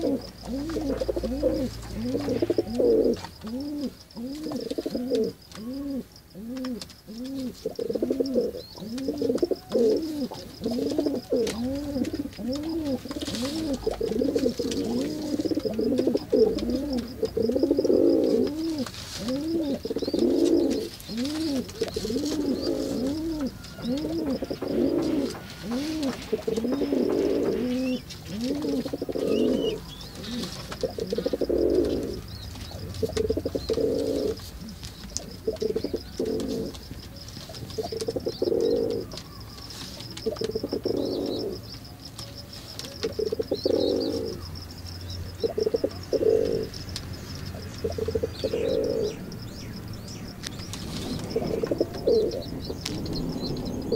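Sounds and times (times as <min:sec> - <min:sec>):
pigeons cooing: 0:00.0 - 0:53.9.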